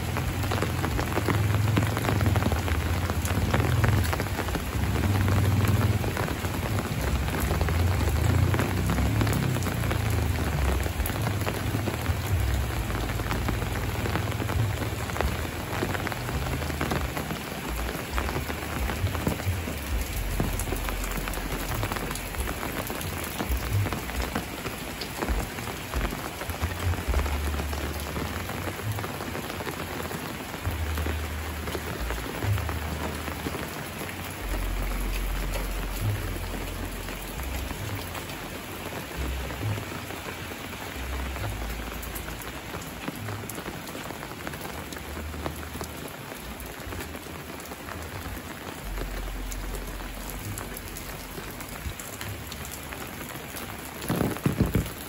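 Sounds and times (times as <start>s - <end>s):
rain on metal roofs: 0.0s - 55.0s.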